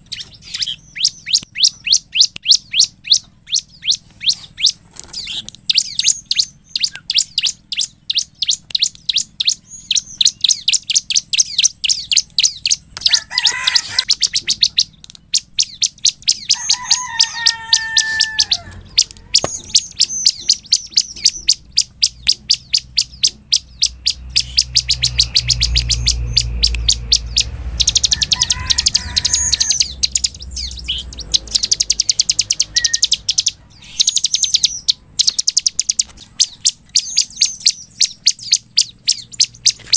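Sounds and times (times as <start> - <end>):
bird song of sharp chips: 0.0 - 39.9
whistled bird phrases: 0.0 - 39.9.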